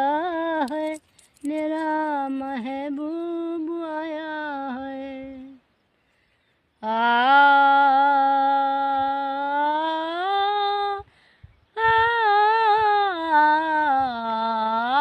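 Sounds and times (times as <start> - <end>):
elderly woman singing: 0.0 - 5.6, 6.8 - 11.1, 11.7 - 15.0.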